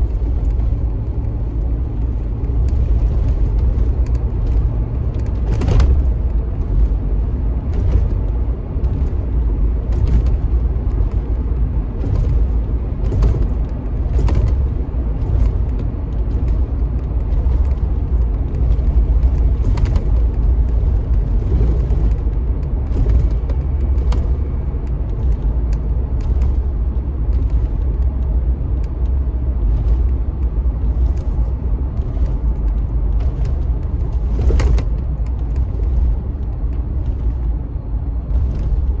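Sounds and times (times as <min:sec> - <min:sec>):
car driving rumble: 0:00.0 - 0:39.0.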